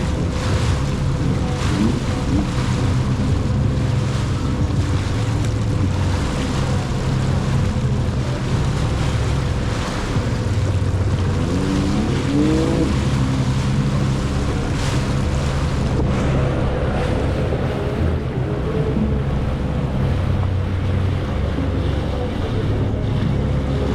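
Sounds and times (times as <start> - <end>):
jet ski engines over water: 0.0 - 23.9.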